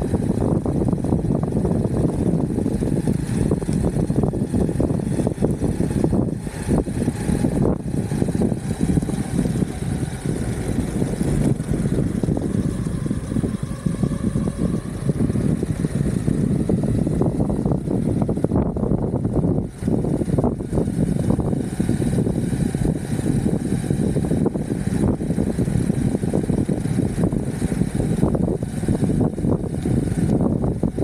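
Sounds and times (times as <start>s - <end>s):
air rushing over microphone: 0.0s - 31.0s.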